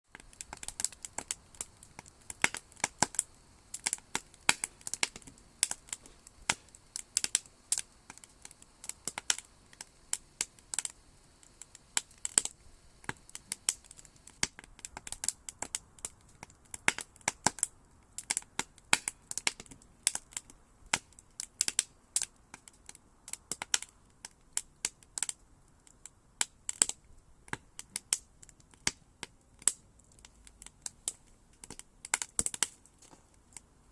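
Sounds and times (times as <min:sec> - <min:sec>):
campfire crackling and popping: 0:00.1 - 0:33.9
faint hiss: 0:00.1 - 0:33.9.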